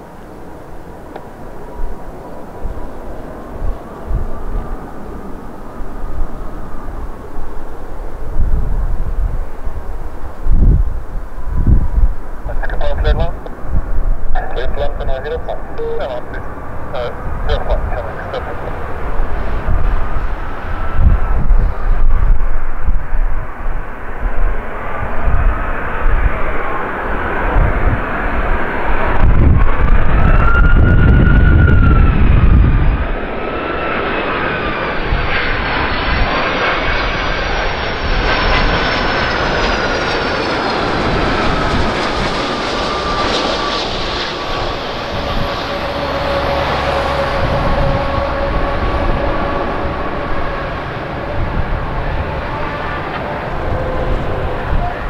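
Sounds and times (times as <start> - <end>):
jet engines whining: 0.0 - 55.0
heavy low rumble: 1.6 - 33.4, 34.0 - 55.0.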